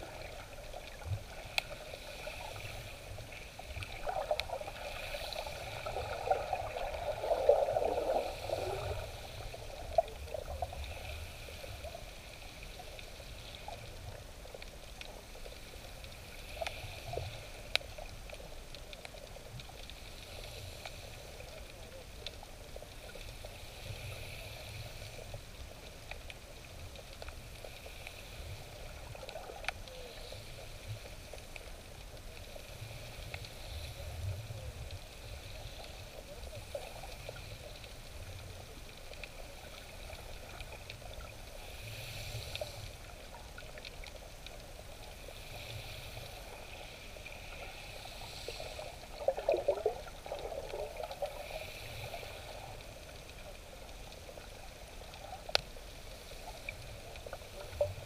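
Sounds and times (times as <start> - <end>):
underwater wash of moving water: 0.0 - 58.0
water gurgle: 0.0 - 58.0.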